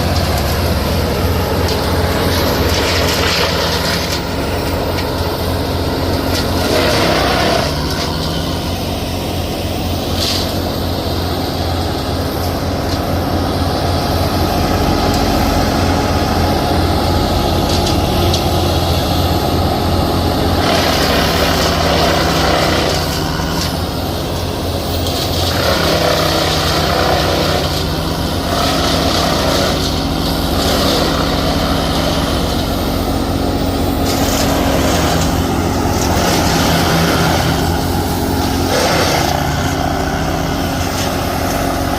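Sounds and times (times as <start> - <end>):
large engine running: 0.0 - 41.9.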